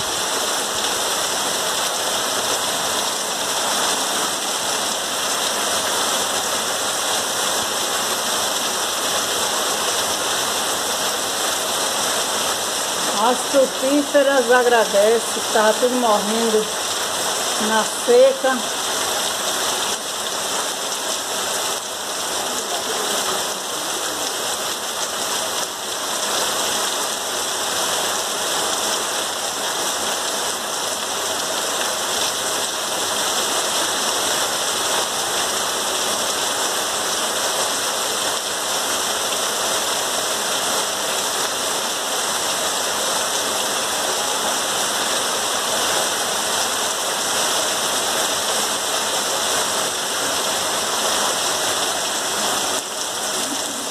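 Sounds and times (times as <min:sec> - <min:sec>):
heavy rain on ground: 0:00.0 - 0:53.9.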